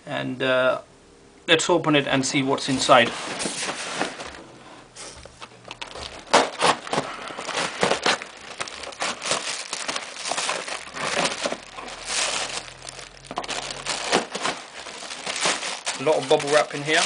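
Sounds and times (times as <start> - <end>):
packaging crinkling and rustling: 2.7 - 17.0.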